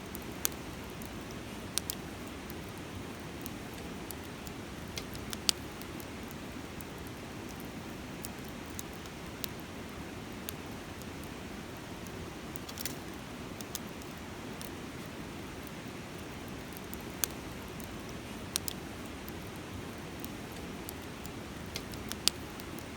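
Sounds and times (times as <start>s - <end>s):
campfire crackling and popping: 0.0s - 22.9s.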